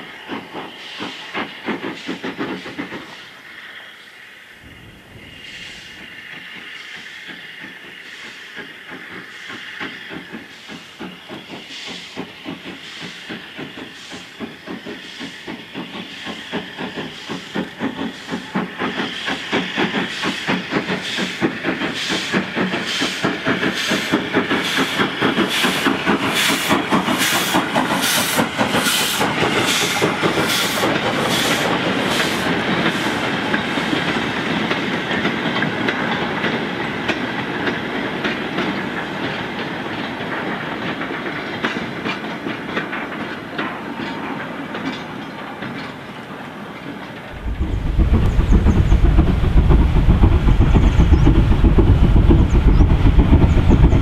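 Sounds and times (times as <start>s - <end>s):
steam hissing: 0.0s - 42.0s, 47.2s - 54.0s
steam locomotive exhaust beats: 0.0s - 46.5s, 47.2s - 54.0s.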